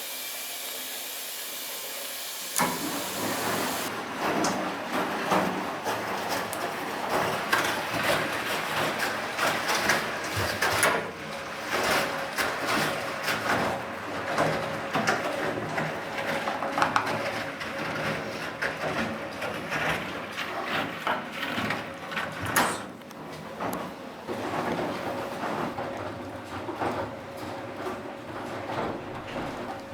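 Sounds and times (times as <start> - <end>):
washing machine churning: 0.0 - 29.9.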